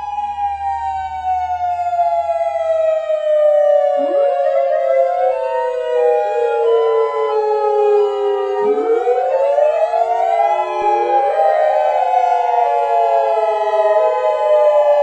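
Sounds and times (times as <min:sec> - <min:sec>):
electronic siren tones wailing: 0:00.0 - 0:15.0.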